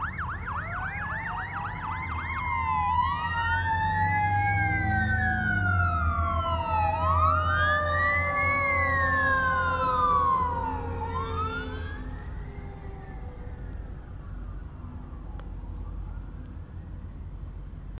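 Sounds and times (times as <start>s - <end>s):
fire truck sirens wailing: 0.0s - 18.0s
truck engines rumbling: 0.0s - 18.0s.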